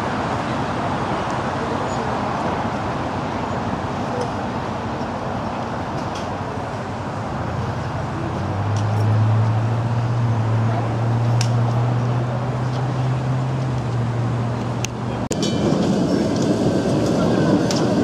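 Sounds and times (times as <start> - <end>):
electric tram humming: 0.0 - 18.0
outdoor background noise: 0.0 - 18.0.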